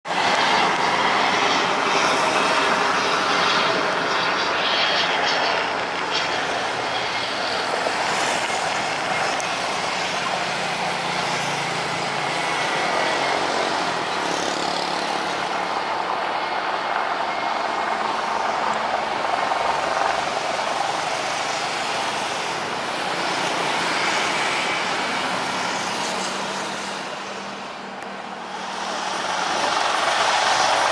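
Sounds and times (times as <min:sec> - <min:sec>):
helicopter rotor and turbine noise: 0:00.1 - 0:30.9
road traffic passing: 0:00.1 - 0:30.9.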